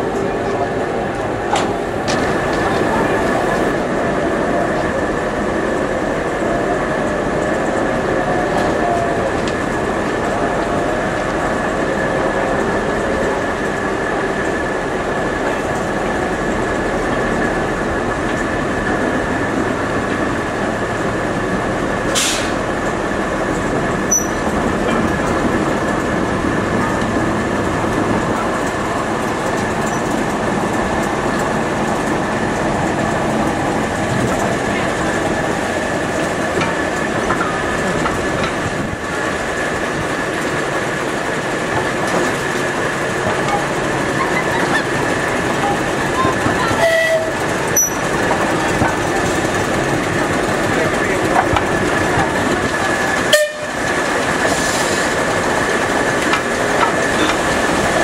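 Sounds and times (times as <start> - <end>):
locomotive engine running: 0.0 - 58.0
wheels rolling on rails: 0.0 - 58.0.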